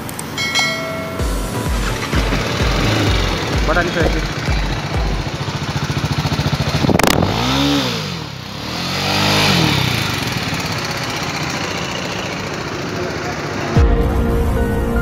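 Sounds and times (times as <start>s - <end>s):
motorcycle engine idling and revving: 0.0s - 14.2s.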